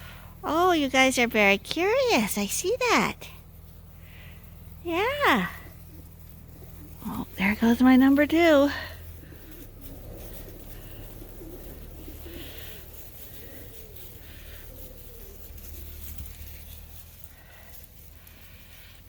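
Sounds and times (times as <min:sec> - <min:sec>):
steady low hum: 0:00.0 - 0:19.0
faint scuffling: 0:00.9 - 0:19.0
soft low cooing calls: 0:03.4 - 0:19.0.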